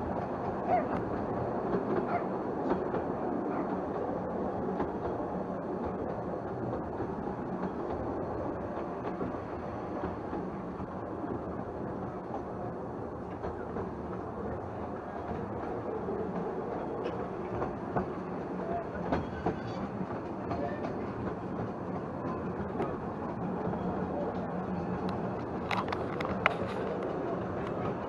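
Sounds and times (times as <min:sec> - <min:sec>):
railway carriage rumble and rattle: 0:00.0 - 0:28.0
wheels clicking over rail joints: 0:00.0 - 0:28.0.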